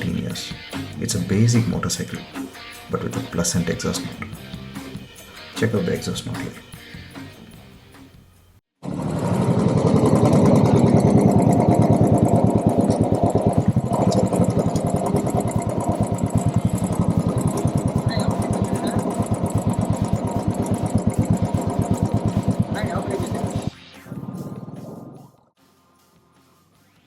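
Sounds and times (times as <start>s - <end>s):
motorcycle engine exhaust beat: 2.5s - 8.2s, 9.0s - 25.1s.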